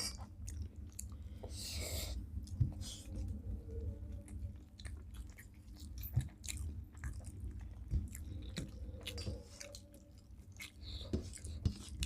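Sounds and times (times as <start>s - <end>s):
person chewing food: 0.0s - 3.4s, 4.1s - 12.0s.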